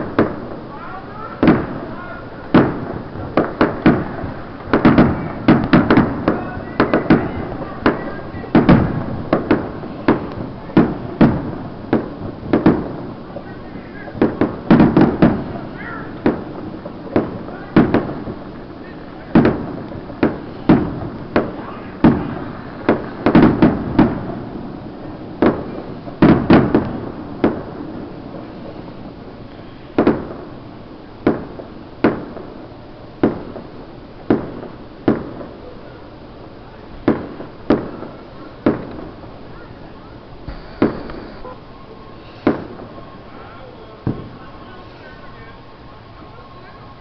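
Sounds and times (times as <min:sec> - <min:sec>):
fireworks bangs echoing: 0:00.0 - 0:47.0.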